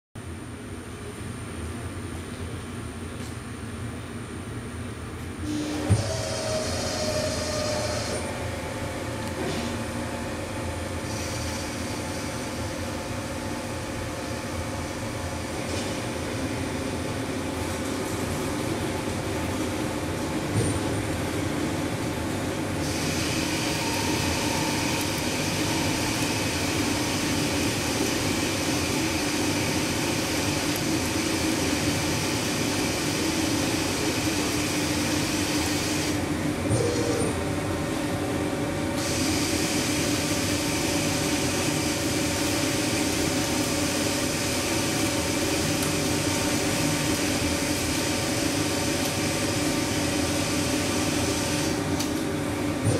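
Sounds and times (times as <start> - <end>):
lathe machine hum: 5.4 - 52.9.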